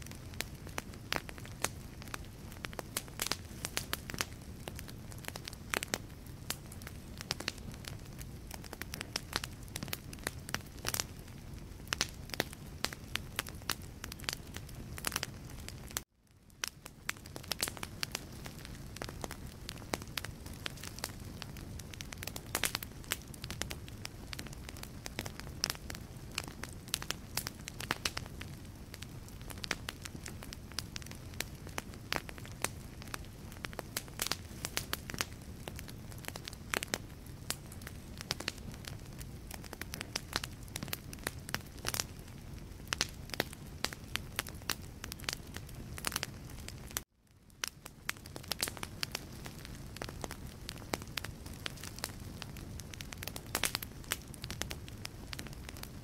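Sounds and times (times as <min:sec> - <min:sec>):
fire flames rumbling: 0:00.0 - 0:56.0
logs crackling and popping: 0:00.0 - 0:56.0.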